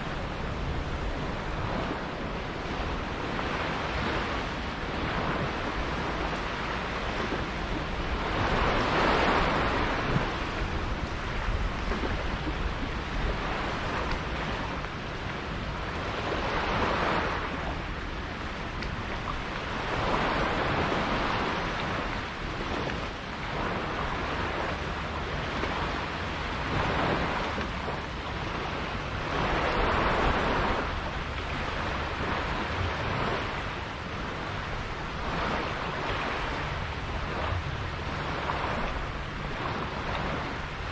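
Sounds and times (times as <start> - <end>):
sea water rushing and splashing: 0.0 - 40.9
wind on microphone: 0.0 - 40.9.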